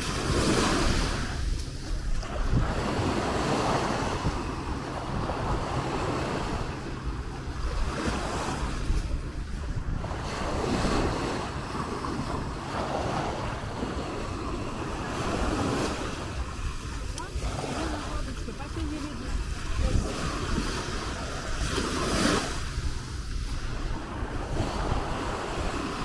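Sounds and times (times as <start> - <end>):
waves washing onto sand: 0.0 - 26.0
wind rumbling on microphone: 0.0 - 26.0.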